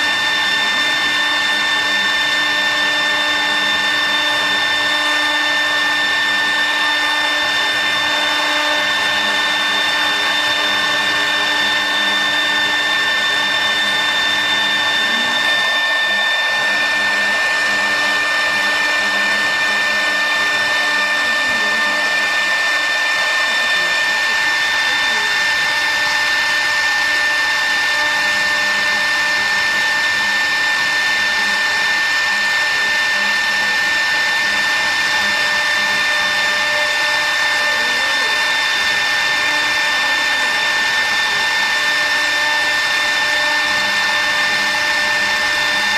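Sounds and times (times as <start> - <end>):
electric motor running with whine: 0.0 - 45.9.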